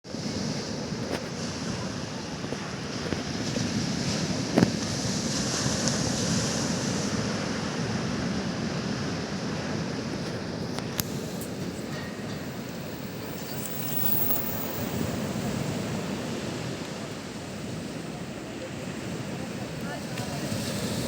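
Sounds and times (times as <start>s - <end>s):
sea surf washing in: 0.1s - 21.0s.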